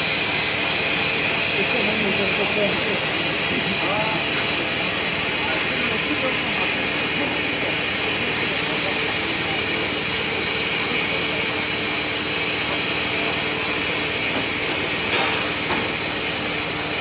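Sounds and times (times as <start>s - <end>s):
machine hiss and hum: 0.0s - 17.0s.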